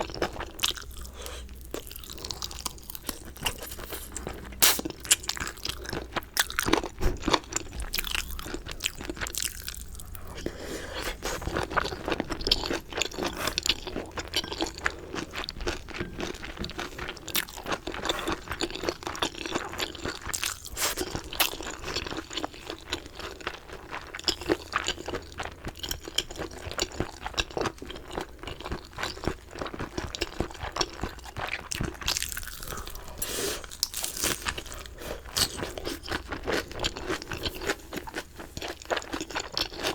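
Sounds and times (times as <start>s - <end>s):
crunching fried chicken: 0.0s - 10.4s, 11.1s - 39.9s
wet chewing: 0.0s - 39.9s.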